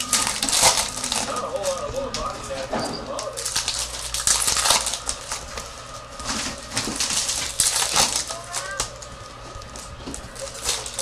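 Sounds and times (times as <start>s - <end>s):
cards and wrappers crinkling: 0.0s - 11.0s.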